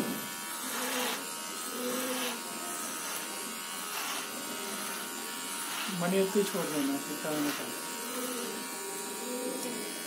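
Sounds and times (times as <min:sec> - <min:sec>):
electric beard trimmer buzzing: 0:00.0 - 0:10.0.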